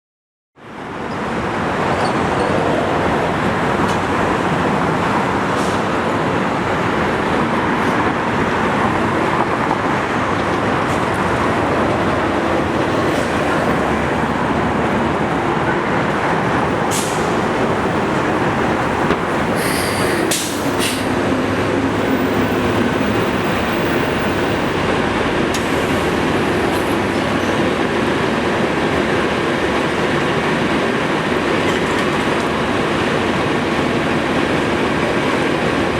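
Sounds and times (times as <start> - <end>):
train rail noise: 0.7 - 35.9.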